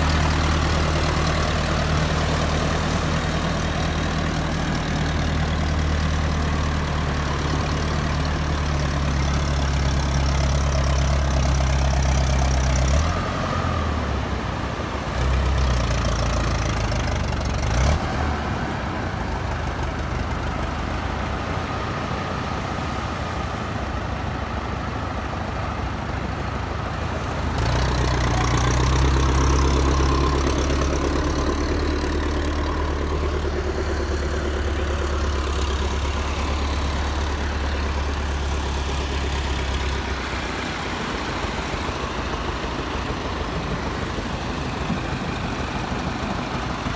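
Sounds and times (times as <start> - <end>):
tractor engine idling: 0.0 - 17.8, 18.4 - 46.9.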